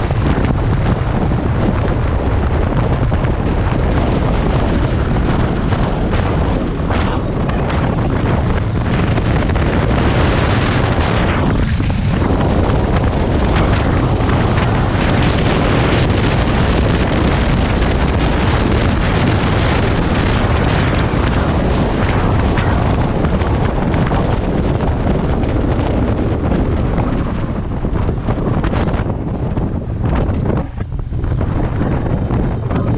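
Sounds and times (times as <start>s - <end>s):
motorcycle engine: 0.0s - 32.9s
road noise: 0.0s - 32.9s
wind rushing over microphone: 0.0s - 32.9s.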